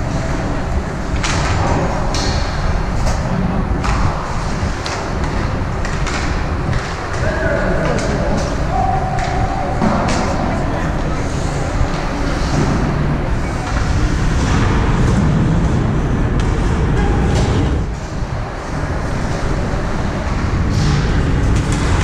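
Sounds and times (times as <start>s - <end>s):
hockey rink rumbling ambience: 0.0s - 22.0s.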